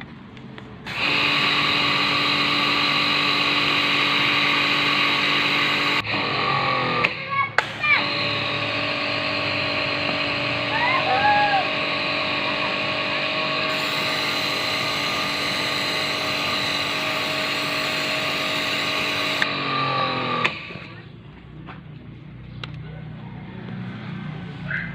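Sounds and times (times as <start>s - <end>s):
electric motor whining: 0.9s - 21.0s.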